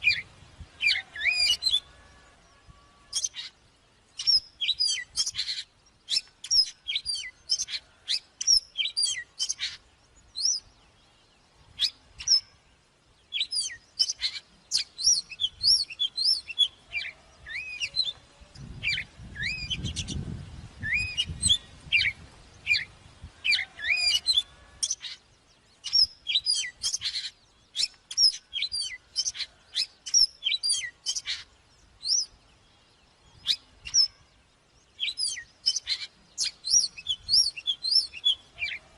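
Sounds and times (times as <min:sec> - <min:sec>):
bird singing whistled notes: 0:00.0 - 0:38.8.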